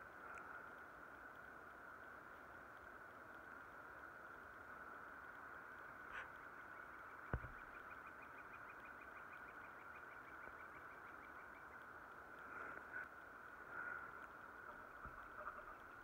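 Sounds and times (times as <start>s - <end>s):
rapid trill of ticks: 0.0s - 16.0s
steady hiss: 0.0s - 16.0s.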